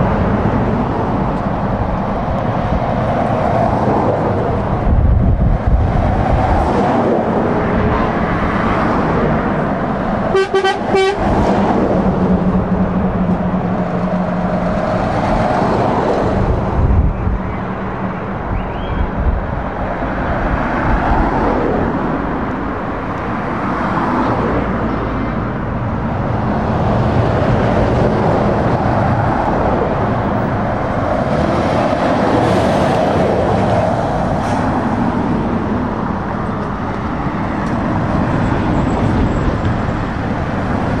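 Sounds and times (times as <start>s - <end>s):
cars passing: 0.0s - 41.0s
lorry diesel engine and tyres: 0.0s - 41.0s.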